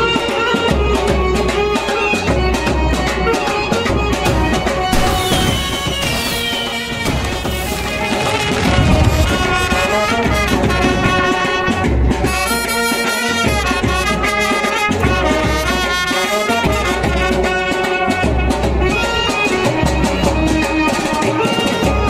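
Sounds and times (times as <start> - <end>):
brass melody: 0.0 - 22.0.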